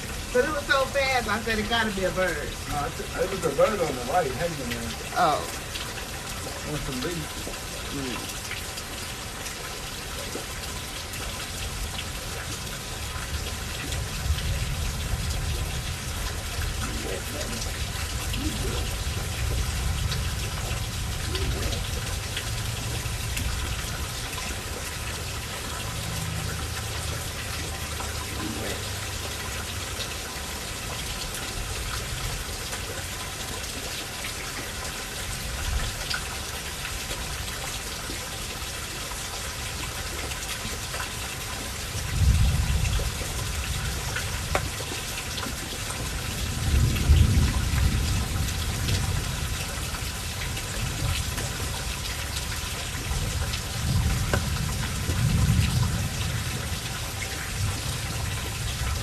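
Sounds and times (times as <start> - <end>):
steady rain falling: 0.0 - 59.0
water drips: 0.0 - 59.0.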